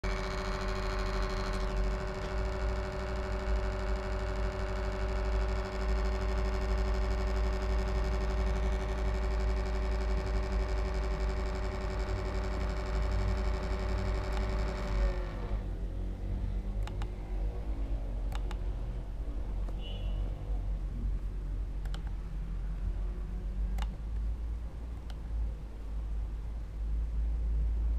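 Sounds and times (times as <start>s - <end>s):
laptop cooling fan whirring: 0.0s - 27.9s.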